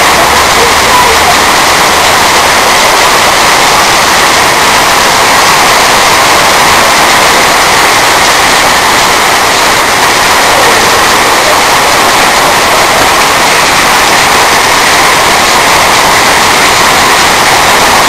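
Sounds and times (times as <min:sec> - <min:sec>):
torrential rain on road: 0:00.0 - 0:18.0.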